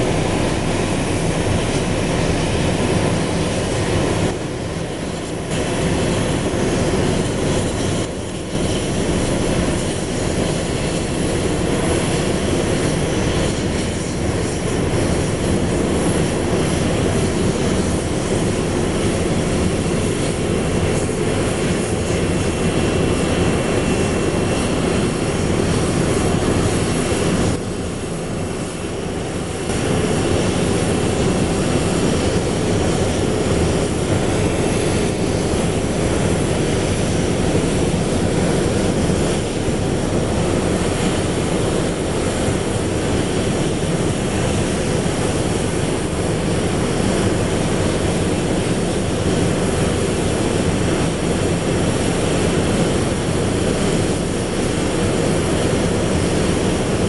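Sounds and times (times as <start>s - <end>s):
jet aircraft rumble and roar: 0.0s - 57.0s.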